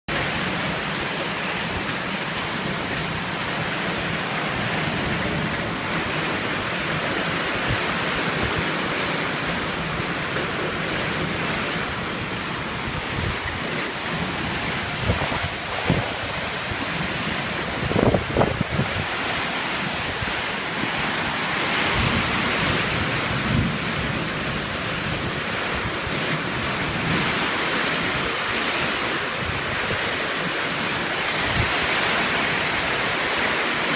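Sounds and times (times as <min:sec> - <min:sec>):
wind gusts buffeting microphone: 0:00.2 - 0:33.9
strong wind rushing: 0:04.8 - 0:33.6.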